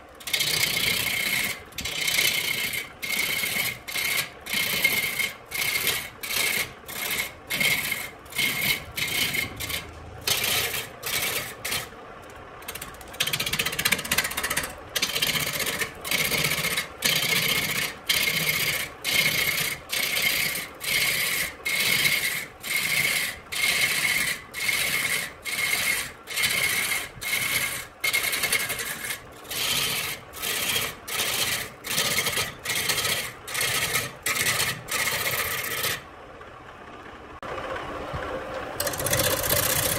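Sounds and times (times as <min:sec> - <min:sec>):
lathe running: 0:00.0 - 0:36.1, 0:37.0 - 0:39.9
tool scraping wood on lathe: 0:00.0 - 0:36.1, 0:38.8 - 0:39.9.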